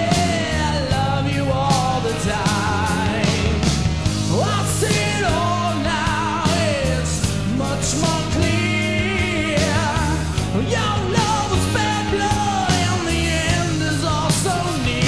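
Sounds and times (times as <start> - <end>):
bending lead guitar melody: 0.0 - 15.0
heavy metal band playing: 0.0 - 15.0.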